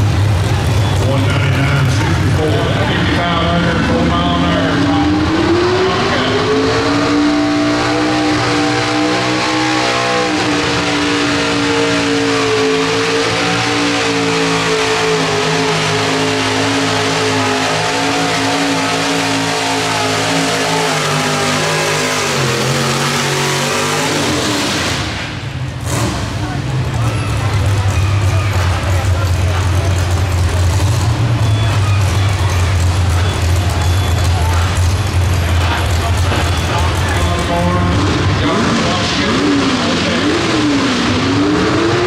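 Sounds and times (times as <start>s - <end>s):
truck engine at high revs: 0.0s - 42.0s.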